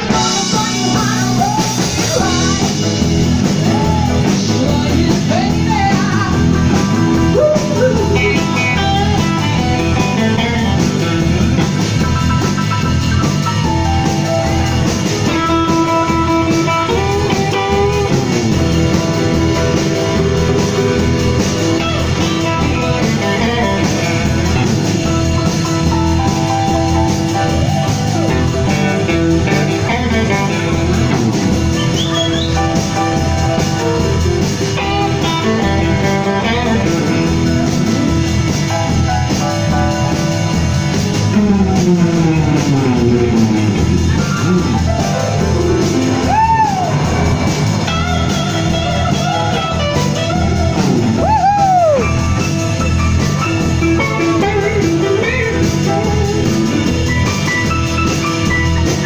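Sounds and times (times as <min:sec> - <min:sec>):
drum kit beat: 0:00.0 - 0:59.0
electric bass: 0:00.0 - 0:59.0
electric guitar notes: 0:00.0 - 0:59.0.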